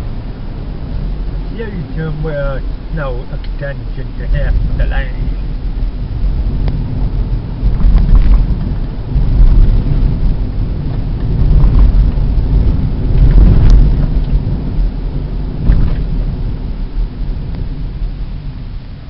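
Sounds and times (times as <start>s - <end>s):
car tyre and road rumble: 0.0s - 19.0s.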